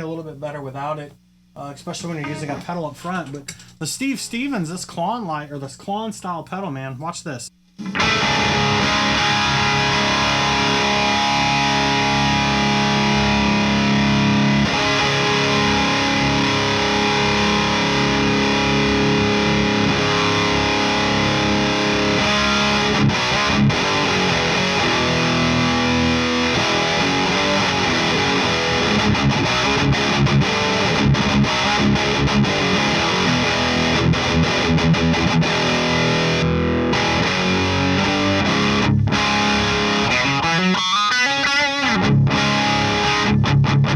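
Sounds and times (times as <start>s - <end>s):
distorted electric guitar: 2.2s - 2.7s, 7.8s - 43.9s.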